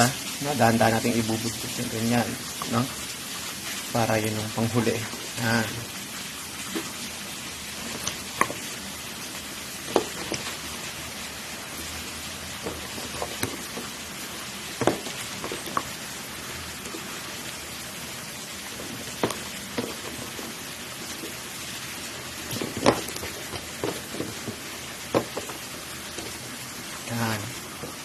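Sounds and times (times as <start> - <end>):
broth boiling with bubbling hiss: 0.0 - 28.0.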